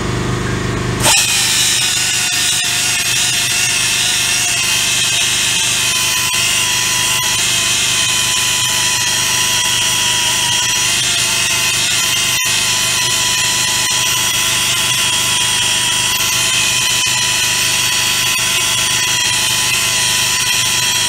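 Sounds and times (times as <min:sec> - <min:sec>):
air belt sander grinding metal: 0:01.0 - 0:21.0.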